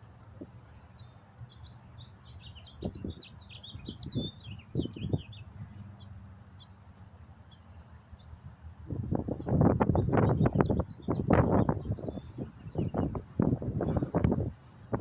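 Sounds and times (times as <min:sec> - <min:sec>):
small birds chirping: 0:00.0 - 0:14.5.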